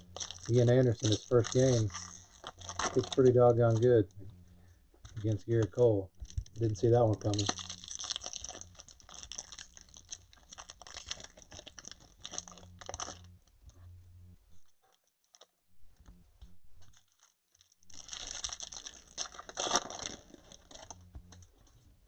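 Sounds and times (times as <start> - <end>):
card wrappers crinkling: 0.0 - 13.4, 16.9 - 21.7.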